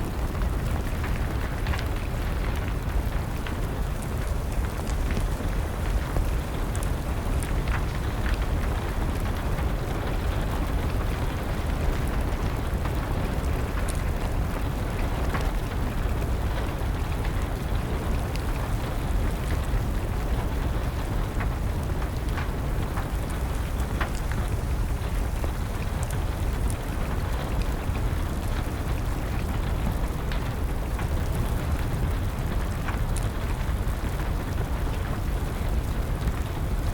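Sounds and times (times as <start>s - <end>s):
fire crackling and popping: 0.0s - 36.9s
rain: 0.0s - 36.9s.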